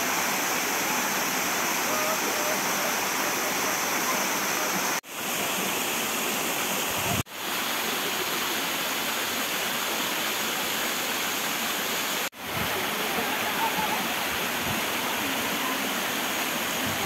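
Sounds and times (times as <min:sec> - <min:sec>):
water rushing from a waterfall: 0:00.0 - 0:17.0.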